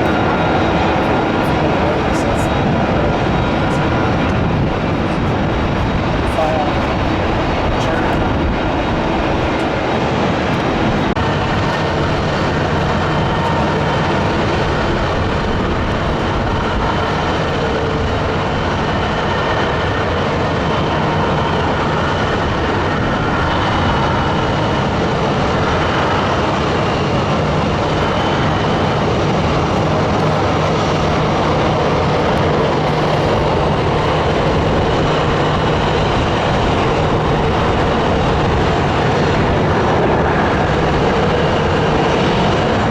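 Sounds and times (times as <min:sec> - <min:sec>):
jet engines landing: 0:00.0 - 0:42.9.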